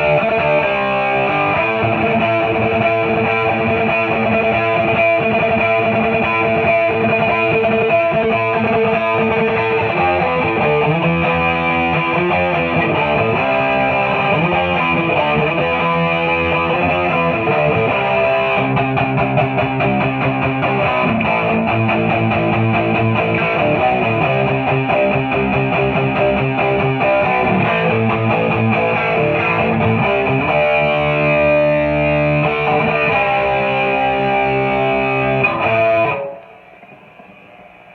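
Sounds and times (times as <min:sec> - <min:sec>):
distorted electric guitar: 0:00.0 - 0:37.9.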